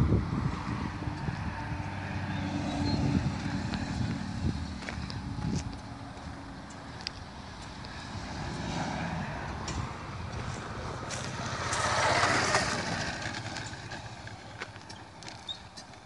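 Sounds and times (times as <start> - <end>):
vehicle engine passing by: 0.0 - 15.5.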